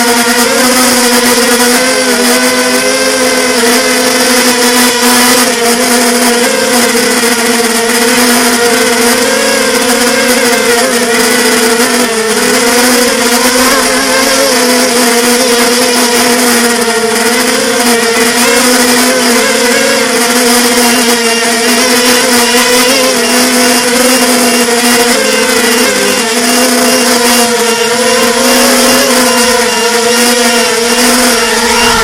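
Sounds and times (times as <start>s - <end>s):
quadcopter propellers whining: 0.0s - 32.0s.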